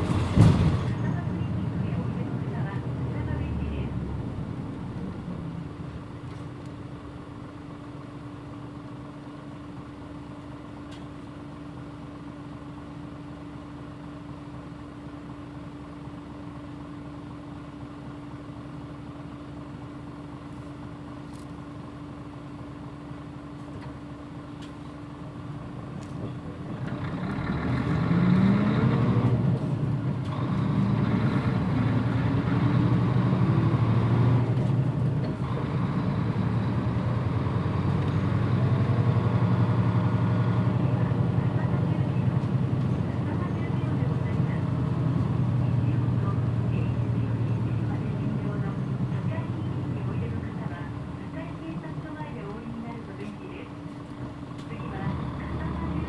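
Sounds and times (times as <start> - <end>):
bus engine idling and revving: 0.0 - 56.0.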